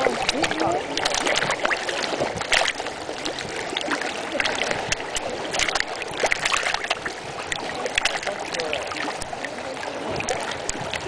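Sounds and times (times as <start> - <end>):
water splashing with pops: 0.0 - 11.0.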